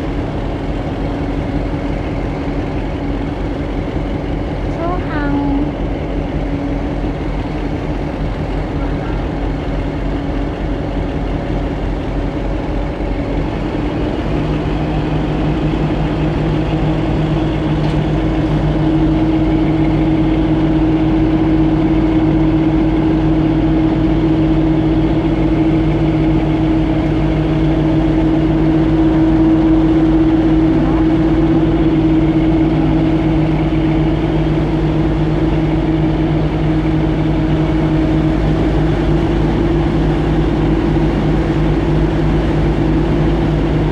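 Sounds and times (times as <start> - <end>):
boat engine humming: 0.0 - 43.9.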